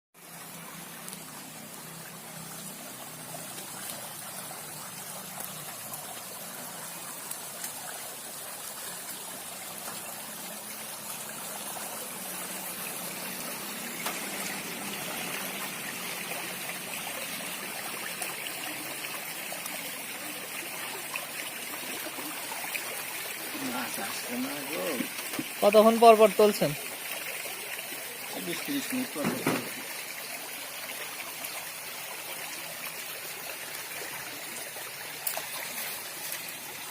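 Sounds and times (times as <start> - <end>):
water flowing and trickling: 0.2 - 36.9.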